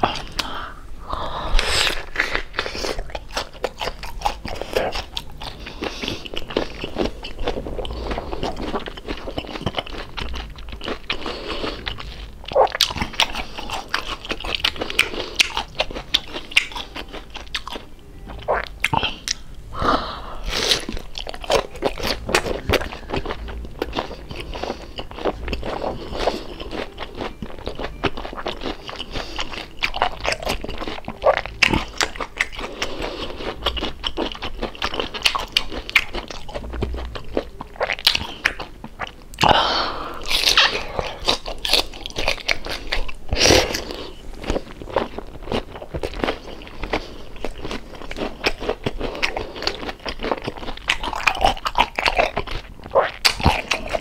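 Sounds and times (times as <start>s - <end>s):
person chewing crispy food: 0.0s - 54.0s.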